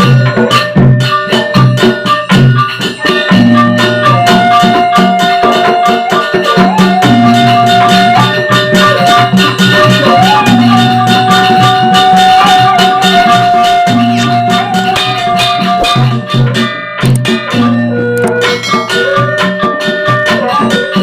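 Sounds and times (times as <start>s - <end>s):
gamelan ensemble playing: 0.0s - 21.0s.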